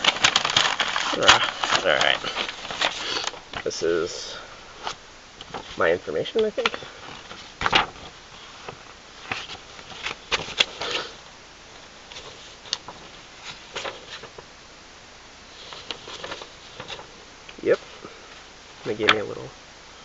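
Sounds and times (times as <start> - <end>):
paper rustling and crinkling: 0.0 - 14.5, 15.5 - 19.4.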